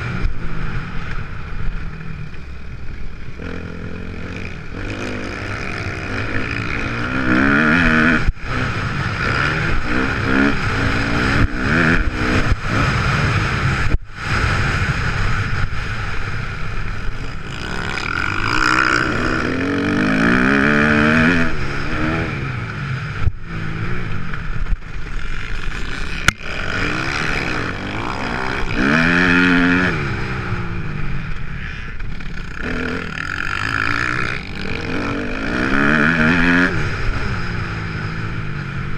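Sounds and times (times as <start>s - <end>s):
motocross engine revving: 3.3s - 38.9s.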